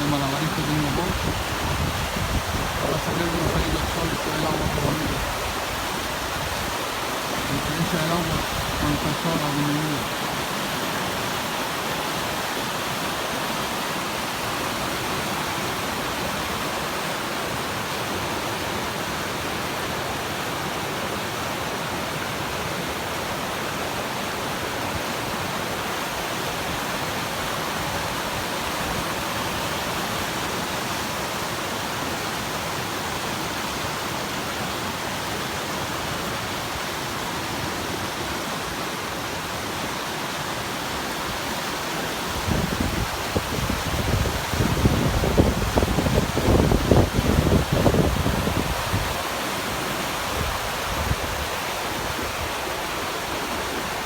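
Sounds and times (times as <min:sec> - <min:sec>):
fast-flowing water rushing: 0:00.0 - 0:54.0.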